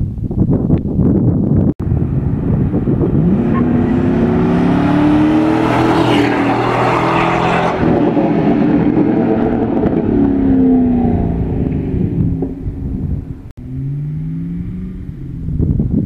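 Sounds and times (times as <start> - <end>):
pickup truck engine revving: 1.8 - 15.7.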